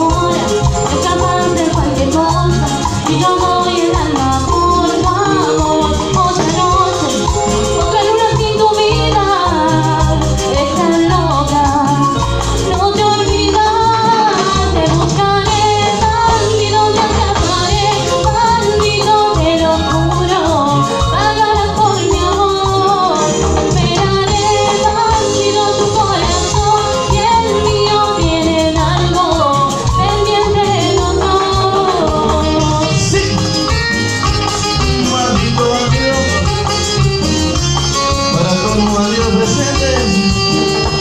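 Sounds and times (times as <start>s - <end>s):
woman singing lead: 0.0s - 38.4s
live band playing: 0.0s - 41.0s.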